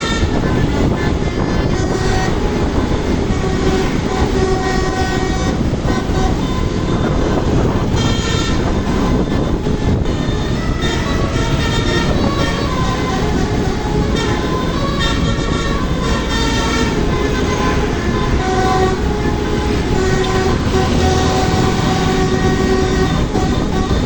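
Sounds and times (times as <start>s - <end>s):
engine and road rumble: 0.0s - 24.0s
musical bus horn: 0.0s - 24.0s.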